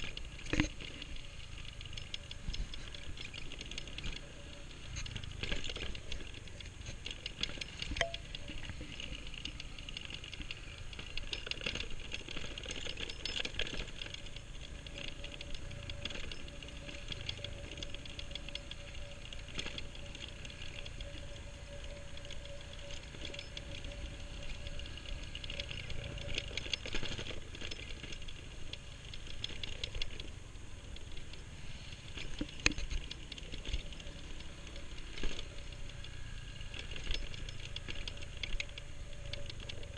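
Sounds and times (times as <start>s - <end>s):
scooter rattling over bumps: 0.0s - 39.9s
small engine hum: 0.0s - 39.9s
thin steady whine: 0.0s - 39.9s.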